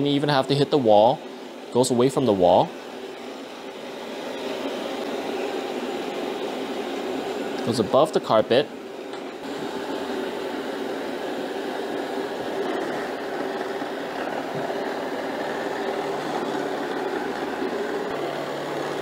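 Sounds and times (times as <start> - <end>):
robot vacuum humming: 1.9 - 19.0.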